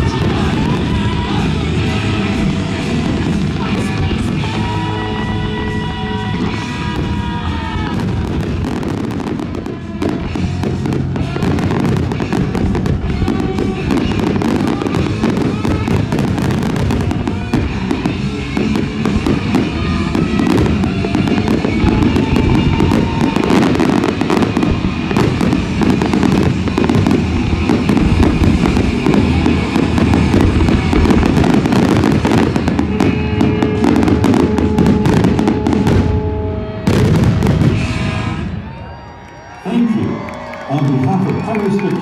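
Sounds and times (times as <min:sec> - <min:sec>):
fireworks bursting: 0:00.0 - 0:42.0
music soundtrack: 0:00.0 - 0:42.0.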